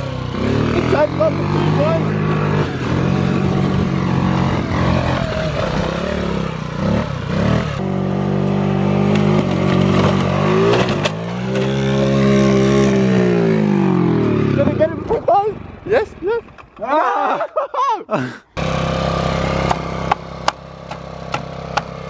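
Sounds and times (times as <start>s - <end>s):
moped engine revving: 0.0s - 16.8s, 18.6s - 22.0s.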